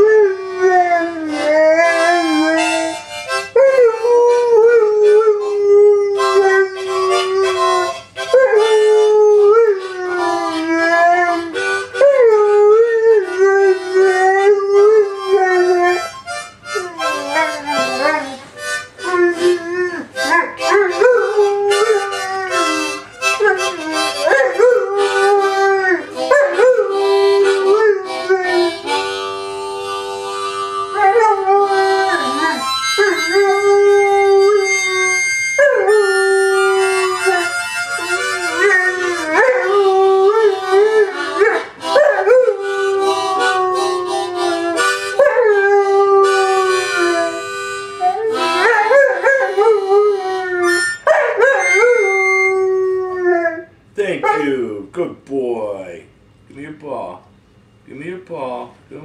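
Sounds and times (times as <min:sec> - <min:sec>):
dog howling: 0:00.0 - 0:02.9, 0:03.6 - 0:18.4, 0:19.0 - 0:29.2, 0:30.7 - 0:54.5
harmonica notes and chords: 0:00.0 - 0:56.6.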